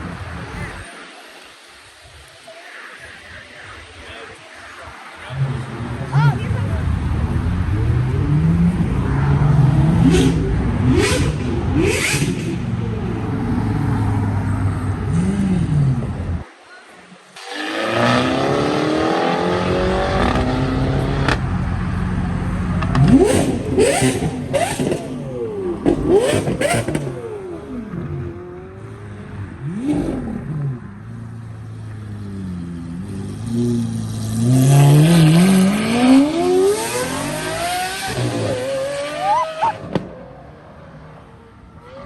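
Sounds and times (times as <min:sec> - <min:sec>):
car engines revving: 0:00.0 - 0:42.0.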